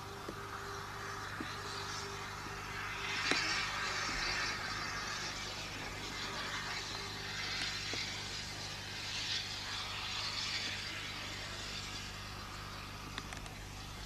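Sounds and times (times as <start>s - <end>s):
constant hiss: 0.0s - 14.0s.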